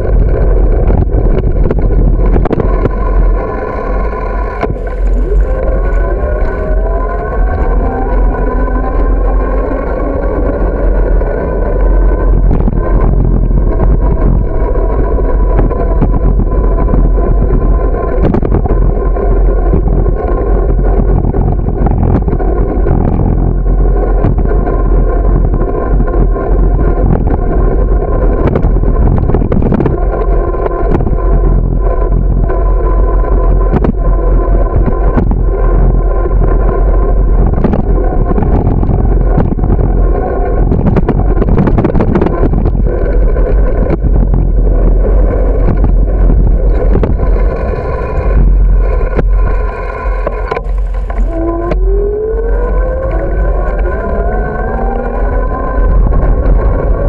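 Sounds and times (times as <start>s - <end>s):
bicycle road rumble: 0.0s - 57.0s
droning hum: 0.0s - 57.0s.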